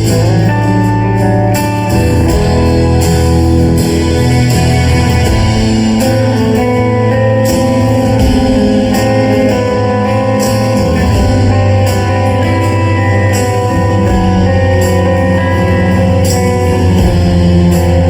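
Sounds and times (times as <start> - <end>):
guitar chords ringing: 0.0 - 18.0
live rock band playing: 0.0 - 18.0
low bass line: 0.0 - 18.0.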